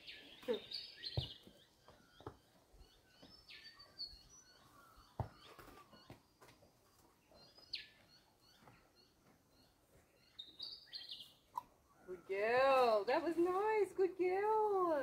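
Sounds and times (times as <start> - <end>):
faint bird chirps: 0.0 - 12.3.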